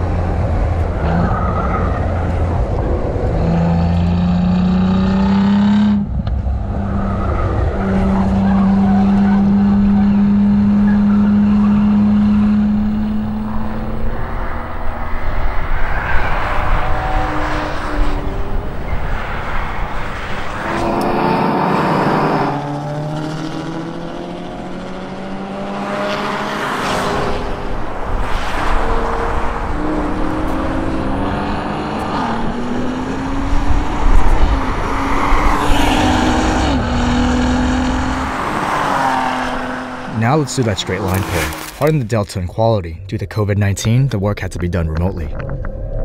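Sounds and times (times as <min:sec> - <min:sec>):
car engine running hard: 0:00.0 - 0:41.9.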